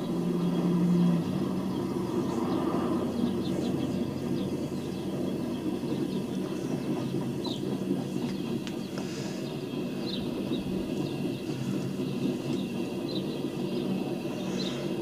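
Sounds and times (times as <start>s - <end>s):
rail cars rolling on rails: 0.0s - 15.0s.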